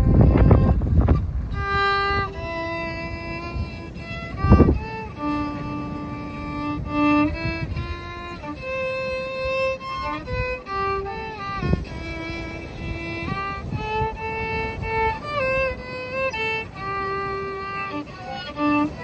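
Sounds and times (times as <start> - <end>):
violin melody: 0.0 - 19.0.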